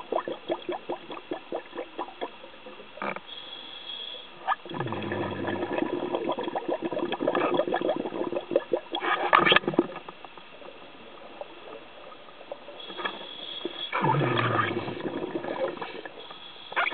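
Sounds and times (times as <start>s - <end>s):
underwater bubbles gurgling: 0.0s - 3.3s, 4.4s - 16.9s.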